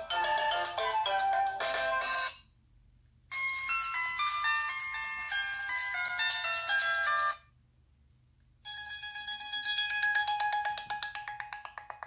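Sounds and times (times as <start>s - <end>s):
melodic ringtone: 0.0s - 2.4s, 3.3s - 7.4s, 8.7s - 12.0s.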